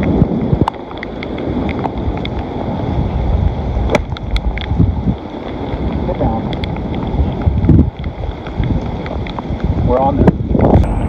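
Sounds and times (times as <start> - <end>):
heavy wind buffeting microphone: 0.0 - 11.0
raindrops ticking on microphone: 0.0 - 11.0.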